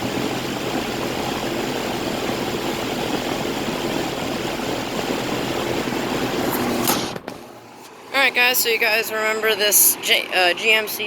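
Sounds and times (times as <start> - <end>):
condenser fan rushing: 0.0 - 11.0
low compressor hum: 0.0 - 11.0.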